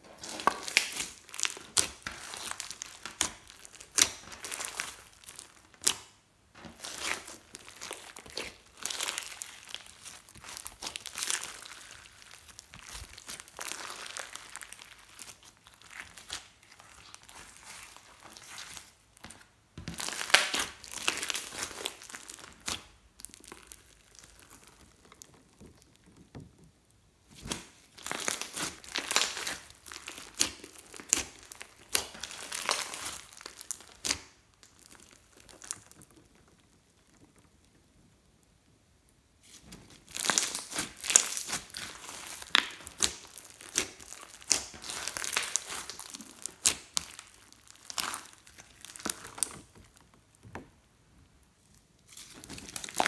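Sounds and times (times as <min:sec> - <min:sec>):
slime crackling and popping: 0:00.1 - 0:38.7, 0:39.5 - 0:53.0.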